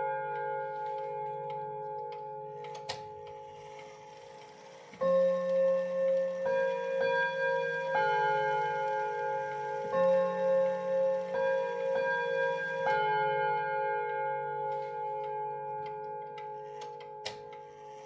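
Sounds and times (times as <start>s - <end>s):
chime clock melody: 0.0s - 18.0s.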